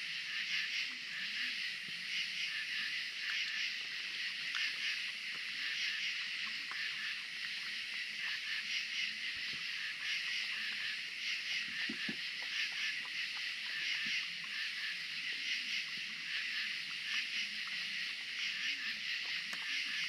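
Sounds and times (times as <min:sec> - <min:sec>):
night insects buzzing: 0:00.0 - 0:20.0
raccoon eating clicks: 0:03.2 - 0:20.0.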